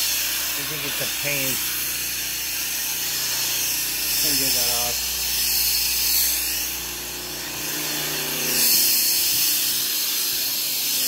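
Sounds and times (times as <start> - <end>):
vacuum hose rushing hiss: 0.0 - 11.0.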